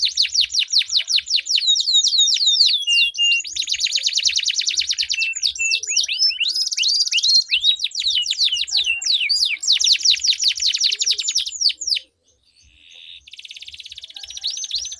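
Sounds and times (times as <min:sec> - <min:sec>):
canaries singing trills: 0:00.0 - 0:14.9.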